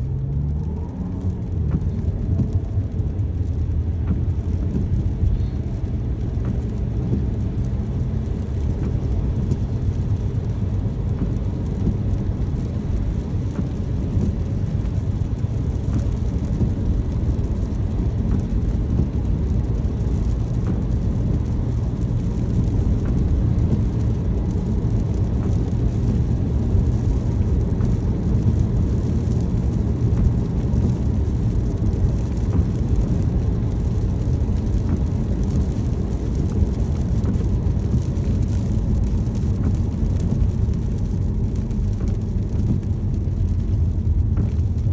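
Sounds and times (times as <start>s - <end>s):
car road and engine rumble: 0.0s - 44.9s
rain pattering on car: 0.0s - 44.9s.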